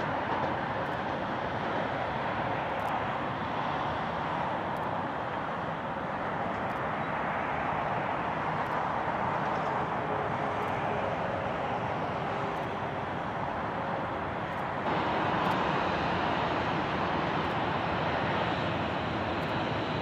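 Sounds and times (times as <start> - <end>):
jet airliner engines rushing: 0.0 - 20.0.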